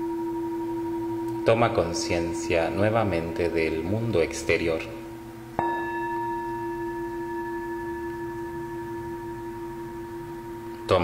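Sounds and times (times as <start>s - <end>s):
singing bowl struck and ringing: 0.0s - 11.0s.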